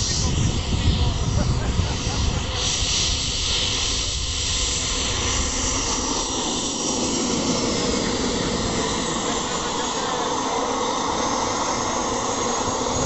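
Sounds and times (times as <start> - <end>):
small jet engine whining: 0.0 - 13.0
strong hiss: 0.0 - 13.0.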